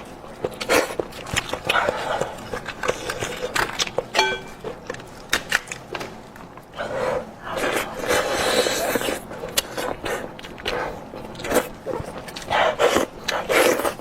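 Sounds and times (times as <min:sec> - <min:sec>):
wet chewing and lip-smacking: 0:00.0 - 0:06.7, 0:07.6 - 0:14.0.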